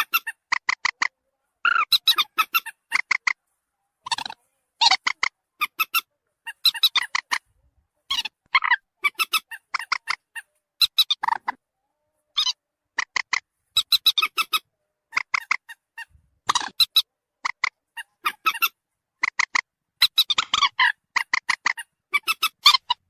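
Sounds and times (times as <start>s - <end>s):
moorhen calls: 0.0s - 3.4s, 4.0s - 7.5s, 8.1s - 23.0s.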